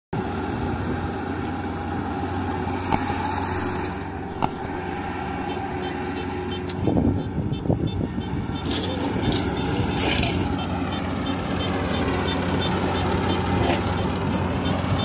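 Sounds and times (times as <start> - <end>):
combine harvester engine running: 0.2 - 15.0.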